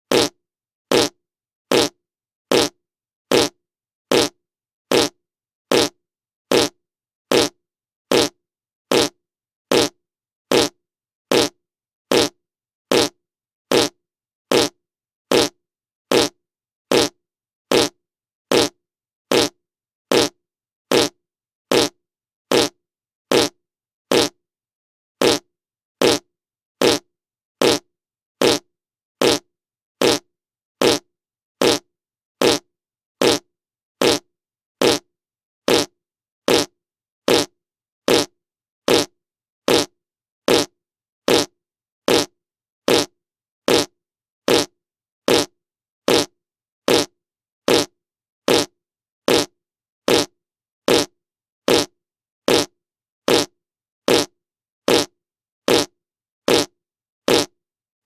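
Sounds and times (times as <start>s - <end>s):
fart sound effect: 0.1s - 24.4s, 25.2s - 35.1s, 35.7s - 35.9s, 36.5s - 37.5s, 38.1s - 39.1s, 39.7s - 39.9s, 40.5s - 42.3s, 42.9s - 43.9s, 44.5s - 44.7s, 45.3s - 46.3s, 46.9s - 47.1s, 47.7s - 47.9s, 48.5s - 51.1s, 51.7s - 51.9s, 52.5s - 52.7s, 53.3s - 53.5s, 54.1s - 54.3s, 54.9s - 55.1s, 55.7s - 55.9s, 56.5s - 57.6s.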